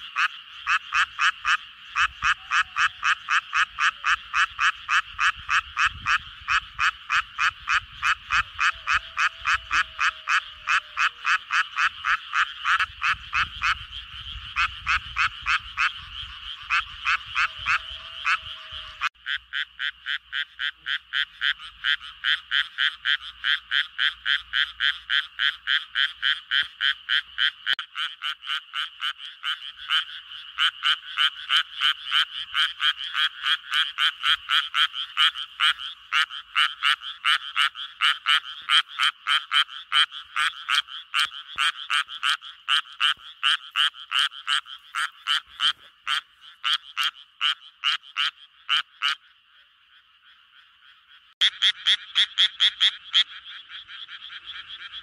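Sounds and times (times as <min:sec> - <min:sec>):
chorus of frogs calling: 0:00.0 - 0:55.0.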